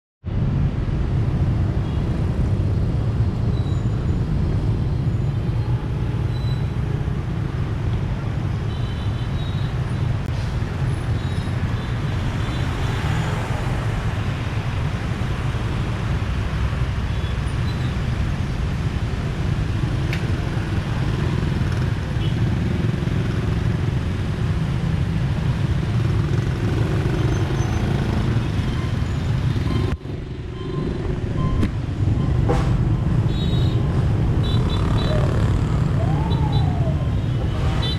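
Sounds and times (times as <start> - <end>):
road noise: 0.2 - 37.9.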